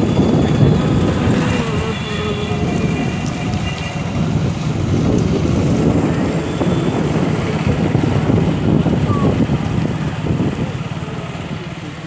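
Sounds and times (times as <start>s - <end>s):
street traffic rumble: 0.0s - 12.0s
wind buffeting microphone: 0.0s - 12.0s.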